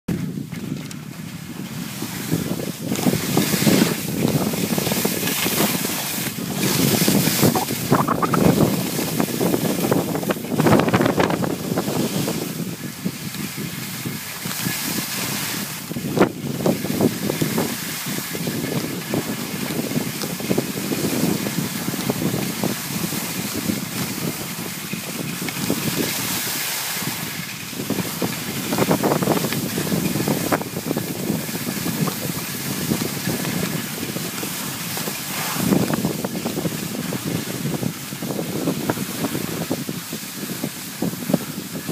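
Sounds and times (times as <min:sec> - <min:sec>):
skis scraping over packed snow: 0:00.1 - 0:41.9
wind rushing over microphone: 0:00.1 - 0:41.9.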